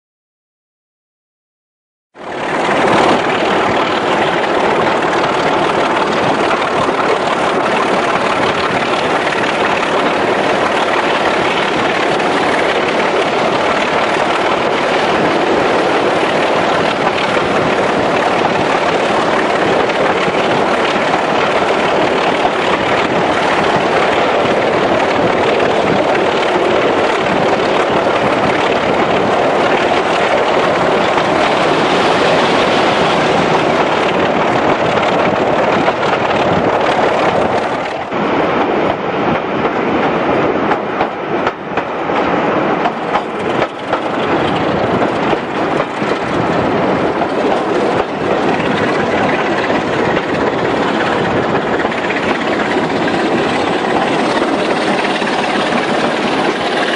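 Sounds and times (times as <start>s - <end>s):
diesel locomotive engine: 2.1s - 56.9s
wind rushing past microphone: 2.2s - 56.9s.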